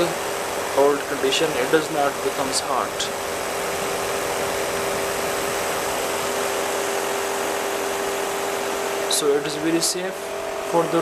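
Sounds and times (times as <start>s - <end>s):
fan heater blower running: 0.0s - 11.0s.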